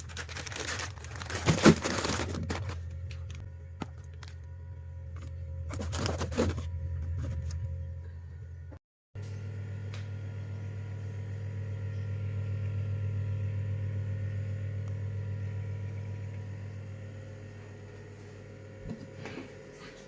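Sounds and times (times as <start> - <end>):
pulsing electrical hum: 0.0 - 20.0.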